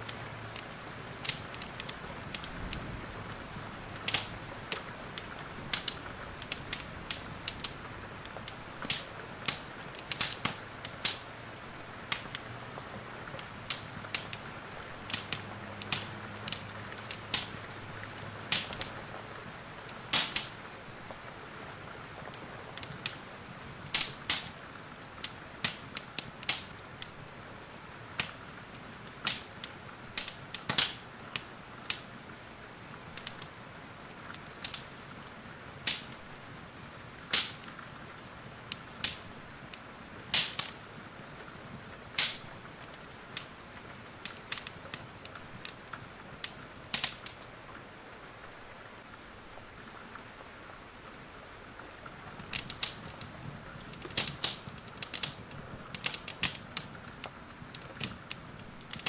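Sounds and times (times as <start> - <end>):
rain hissing: 0.0 - 59.0
wood fire crackling: 0.0 - 59.0.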